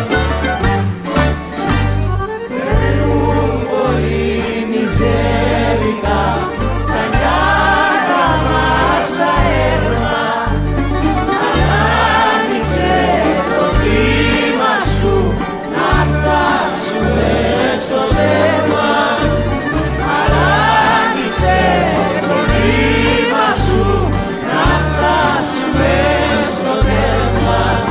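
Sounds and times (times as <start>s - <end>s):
band accompaniment: 0.0s - 27.9s
bass line: 0.0s - 27.9s
voices singing: 2.3s - 27.9s.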